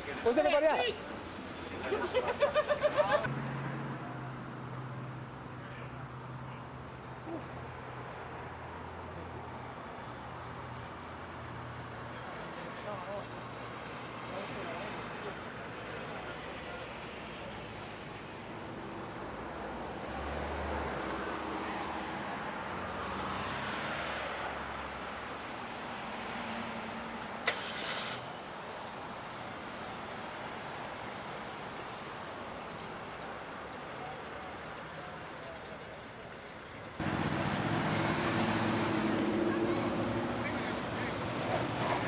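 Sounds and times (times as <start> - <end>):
motor vehicles passing: 0.0 - 42.0
steady outdoor noise: 0.0 - 42.0.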